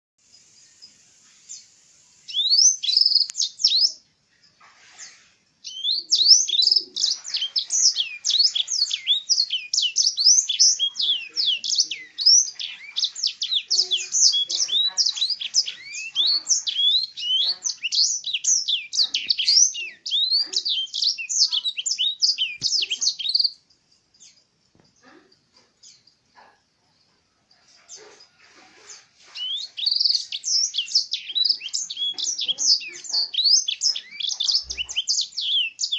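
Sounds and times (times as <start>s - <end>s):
songbird twittering song: 0.2s - 35.9s.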